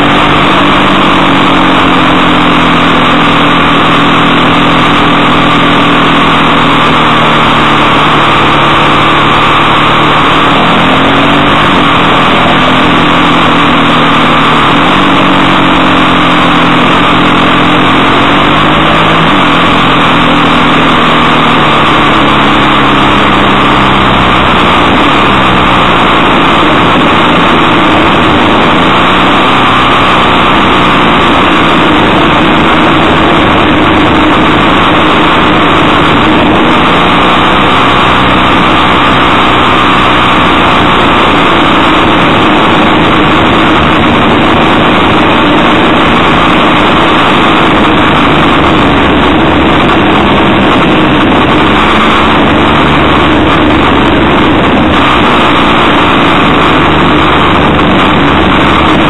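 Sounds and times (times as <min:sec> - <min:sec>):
motorcycle engine: 0:00.0 - 0:59.0
wind rush on microphone: 0:00.0 - 0:59.0.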